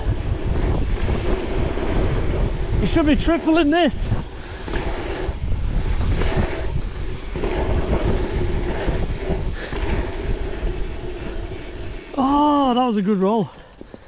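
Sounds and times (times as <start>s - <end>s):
bike tyres rolling on tarmac: 0.0s - 14.0s
wind buffeting microphone: 0.0s - 14.0s.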